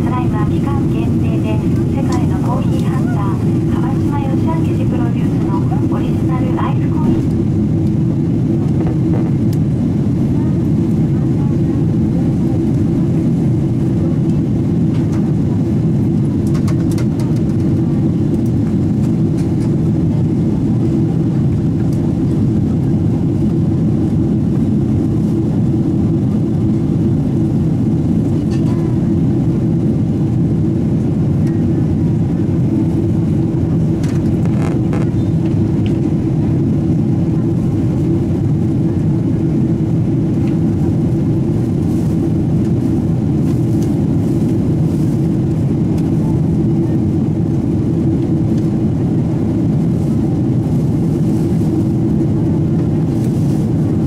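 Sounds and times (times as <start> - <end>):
airplane cabin engine roar: 0.0 - 54.0.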